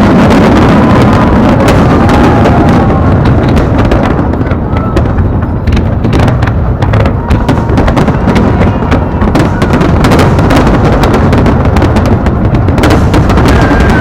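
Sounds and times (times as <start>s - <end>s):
fireworks bangs and crackles: 0.0s - 14.0s
low rumble: 0.0s - 14.0s.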